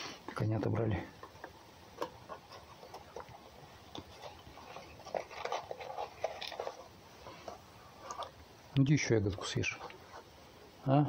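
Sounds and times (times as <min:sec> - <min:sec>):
animal chewing food: 0:00.0 - 0:10.5.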